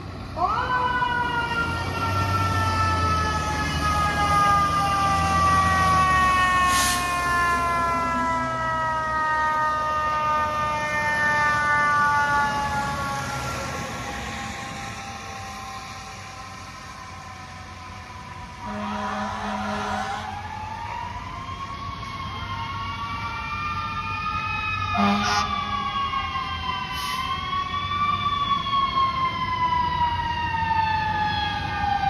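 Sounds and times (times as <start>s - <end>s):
truck engine rumbling: 0.0s - 32.0s
fire truck siren winding: 0.4s - 32.0s.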